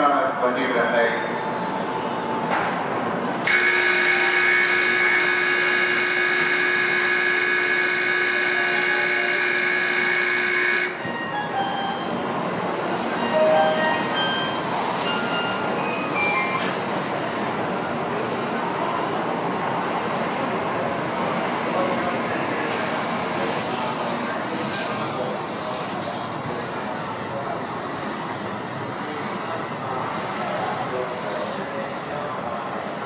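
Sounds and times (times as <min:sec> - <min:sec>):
platform and train noise: 0:00.0 - 0:33.0.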